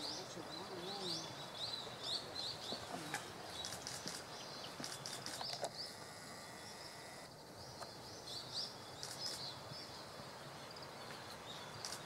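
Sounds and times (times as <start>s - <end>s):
faint bird chirps: 0.0s - 12.0s
steady outdoor hiss: 0.0s - 12.0s.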